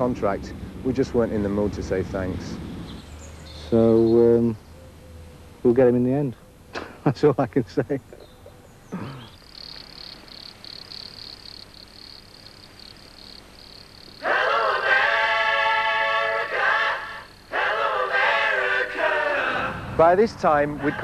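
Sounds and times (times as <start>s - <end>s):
faint pulsing high buzz: 0.0s - 21.0s.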